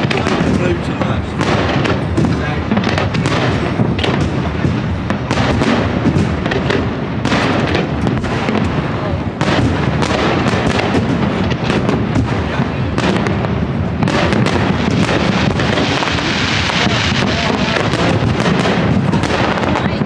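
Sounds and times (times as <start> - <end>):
fireworks bangs and crackles: 0.0 - 20.0
low rumble: 0.0 - 20.0.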